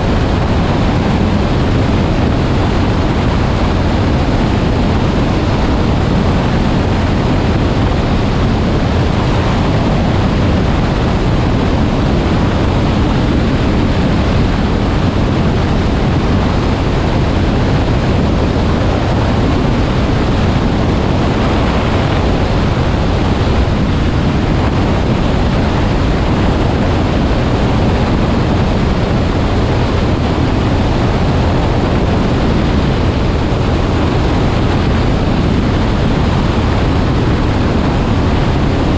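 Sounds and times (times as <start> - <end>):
airflow and wind buffeting microphone: 0.0 - 38.9.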